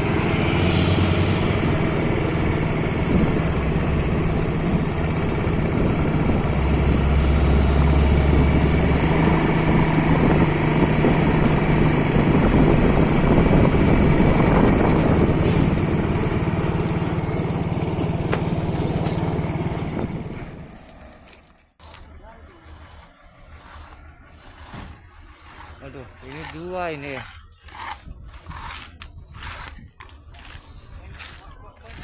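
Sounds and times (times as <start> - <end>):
heavy vehicle engine humming: 0.0 - 26.3.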